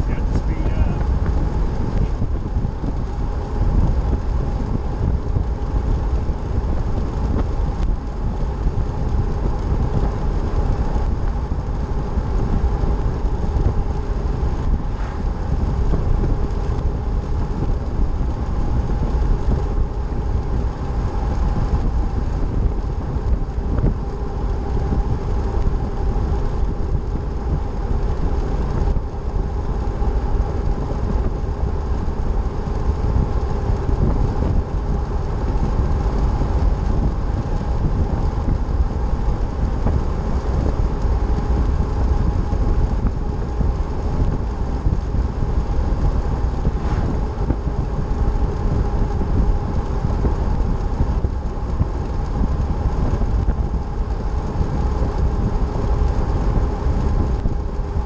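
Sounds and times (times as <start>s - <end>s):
faint steady hum: 0.0s - 58.0s
vehicle driving on road: 0.0s - 58.0s.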